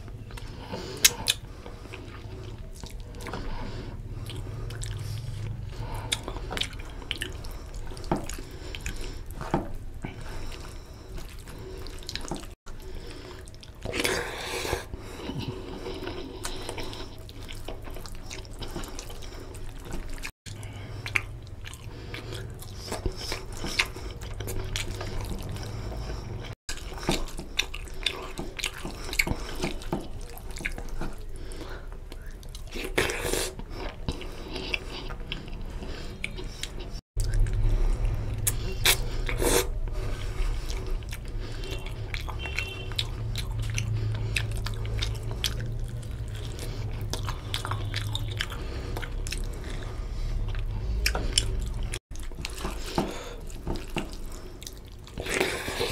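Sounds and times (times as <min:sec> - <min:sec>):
steady low hum: 0:00.0 - 0:32.5, 0:33.5 - 0:55.5
chewing and lip-smacking: 0:00.0 - 0:55.9
fingers squelching in wet food: 0:00.1 - 0:55.9.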